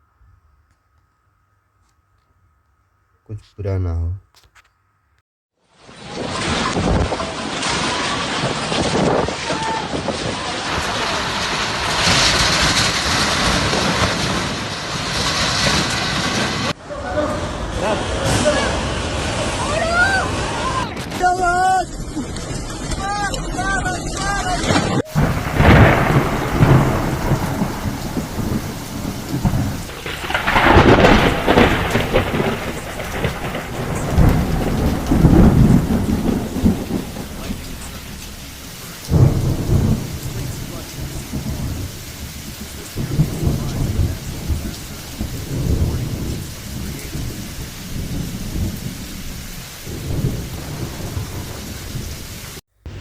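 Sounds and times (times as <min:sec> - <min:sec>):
heavy rain falling: 0:05.6 - 0:53.0
low rumbling: 0:06.4 - 0:53.0.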